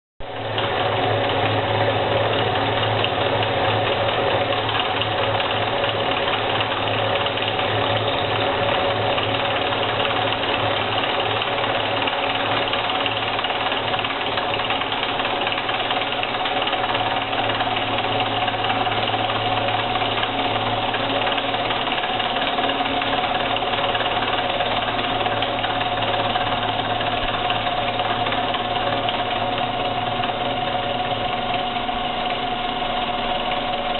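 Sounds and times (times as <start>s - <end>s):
milling machine whine: 0.2s - 33.9s.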